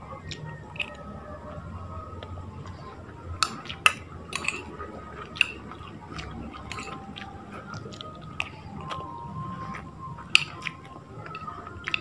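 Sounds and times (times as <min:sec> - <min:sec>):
chewing soft food: 0:00.0 - 0:12.0.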